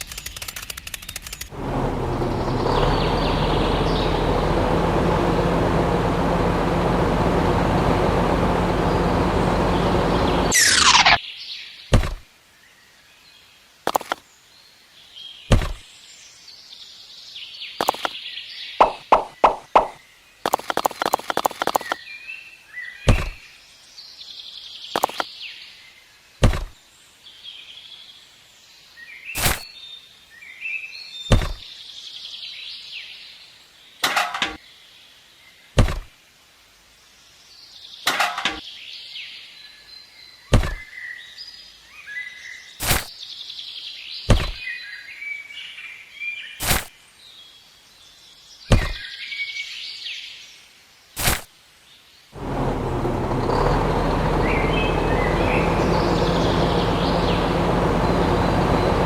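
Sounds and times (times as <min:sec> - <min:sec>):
small birds chirping: 0:00.0 - 0:12.6, 0:13.2 - 0:36.2, 0:36.8 - 0:59.0.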